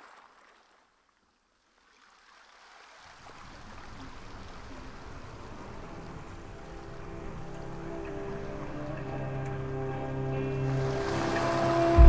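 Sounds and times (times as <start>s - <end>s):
sea water washing: 1.8s - 12.0s.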